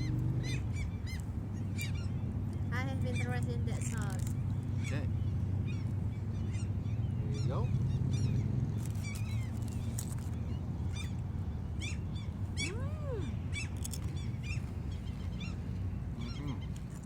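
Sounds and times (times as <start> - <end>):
gulls calling: 0.0 - 17.0
steady low hum: 0.0 - 17.0.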